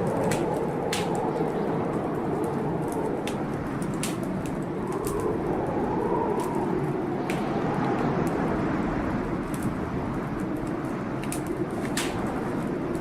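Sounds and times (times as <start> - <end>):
storm wind howling: 0.0 - 13.0
wood fire crackling: 0.0 - 13.0.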